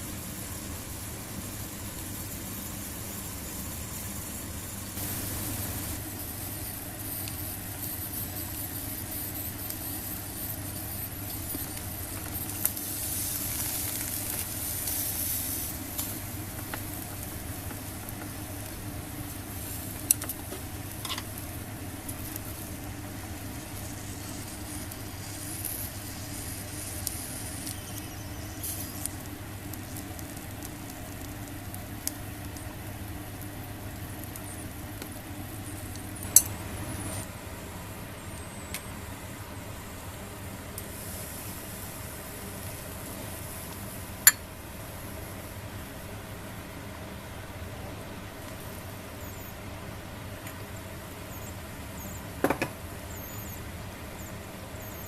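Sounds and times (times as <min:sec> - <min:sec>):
squid sizzling on a grill: 0:00.0 - 0:55.0.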